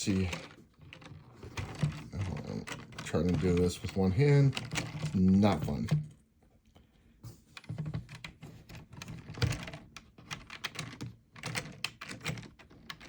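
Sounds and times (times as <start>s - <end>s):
plastic bricks clicking and rattling: 0.0s - 6.1s, 7.6s - 13.0s.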